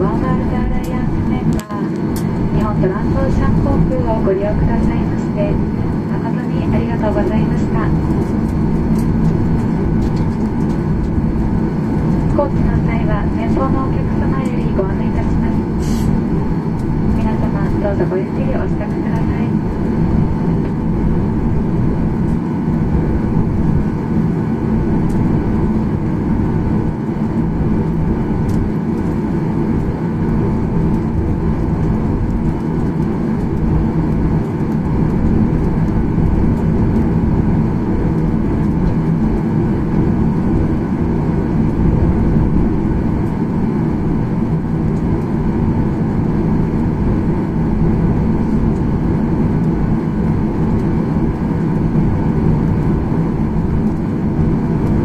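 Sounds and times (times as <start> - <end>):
jet cabin low rumble: 0.0 - 55.0.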